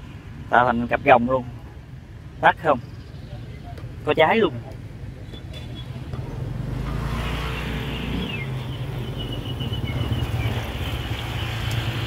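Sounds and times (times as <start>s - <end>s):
street noise: 0.0s - 12.0s
vehicle engine rumbling: 0.0s - 12.0s.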